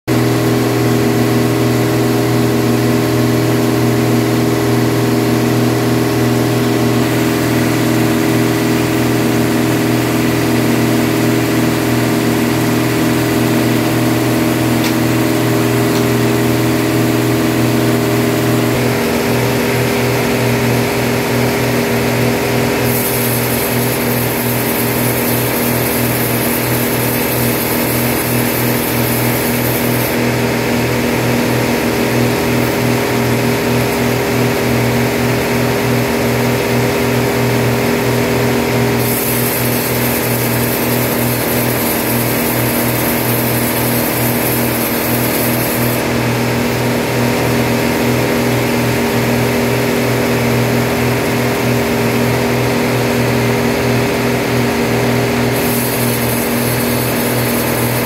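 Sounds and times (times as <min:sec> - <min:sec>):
sawmill machinery humming: 0:00.1 - 0:58.0.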